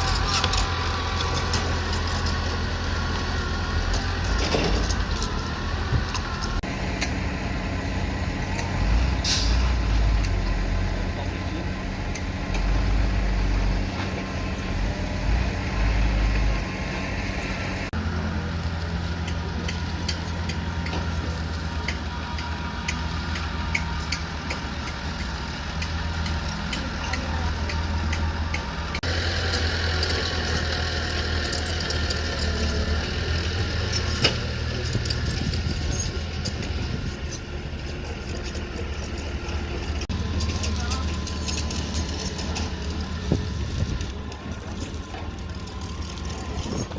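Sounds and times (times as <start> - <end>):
construction machine engine running: 0.0 - 46.9.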